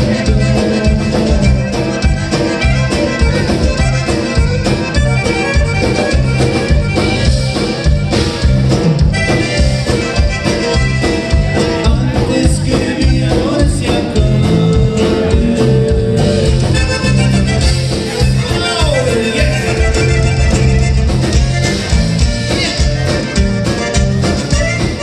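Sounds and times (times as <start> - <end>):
button accordion: 0.0 - 25.0
drums with steady beat: 0.0 - 25.0
electric bass: 0.0 - 25.0
guitars: 0.0 - 25.0.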